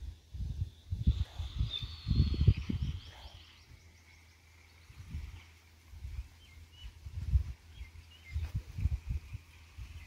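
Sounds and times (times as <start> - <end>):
wind gusting on microphone: 0.0 - 10.0.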